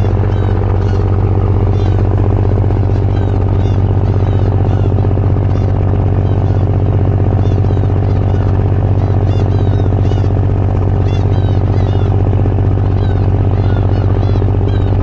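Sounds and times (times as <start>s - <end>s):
diesel engine droning: 0.0s - 15.0s
high chirping calls: 0.0s - 15.0s.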